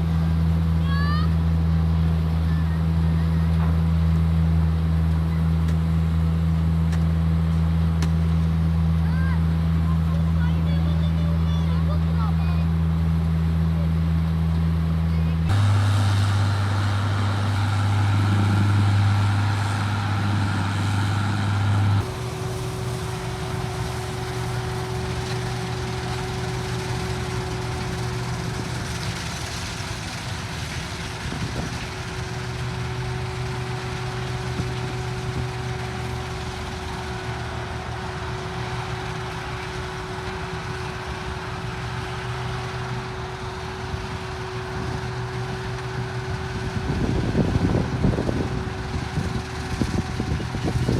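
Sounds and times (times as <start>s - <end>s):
diesel engine running: 0.0s - 50.9s
faint constant whine: 0.0s - 50.9s.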